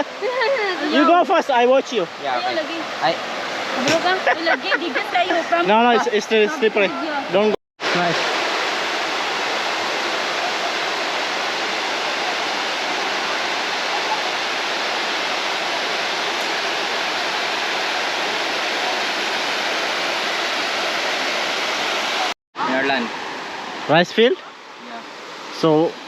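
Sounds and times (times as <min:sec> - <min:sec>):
water rushing over dam: 0:00.0 - 0:26.0.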